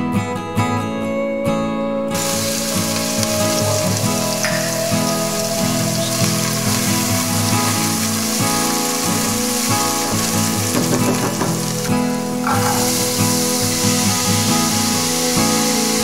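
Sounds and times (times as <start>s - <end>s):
acoustic guitar music: 0.0s - 16.0s
food sizzling in oil: 2.2s - 16.0s.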